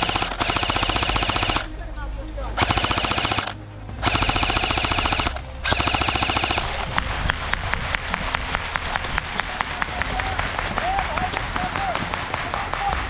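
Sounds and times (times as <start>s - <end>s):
airsoft guns firing: 0.0s - 1.7s, 2.6s - 13.0s.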